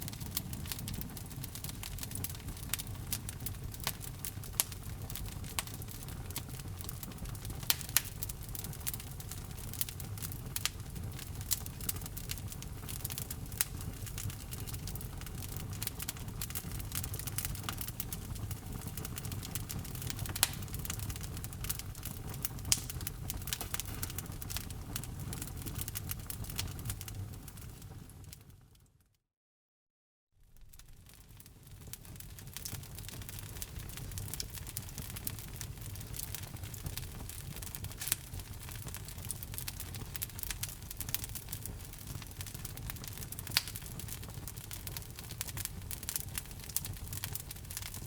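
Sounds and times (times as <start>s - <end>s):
low rumble of flames: 0.0s - 28.7s, 30.5s - 48.0s
fire crackles and pops: 0.0s - 28.8s, 30.4s - 48.0s.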